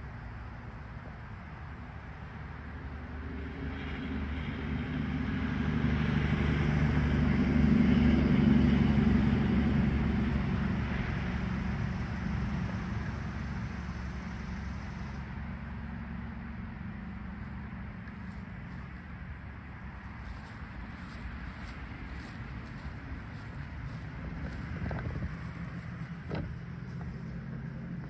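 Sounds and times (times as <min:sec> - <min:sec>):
vehicle driving past: 0:02.2 - 0:28.0.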